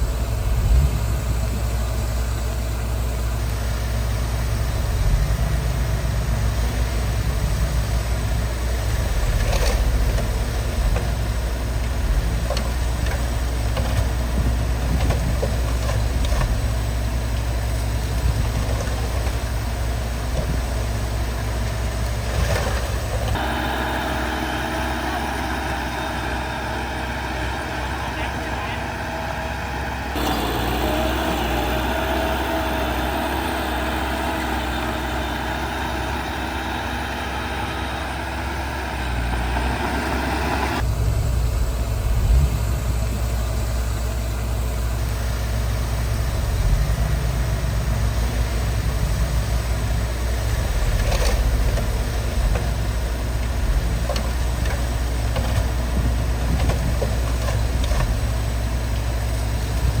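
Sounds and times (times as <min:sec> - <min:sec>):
heavy machinery diesel engine: 0:00.0 - 1:00.0.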